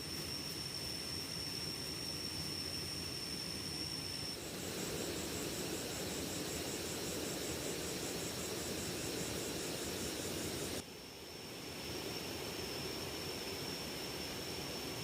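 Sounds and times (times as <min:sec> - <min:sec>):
high insect-like trill: 0:00.0 - 0:15.0.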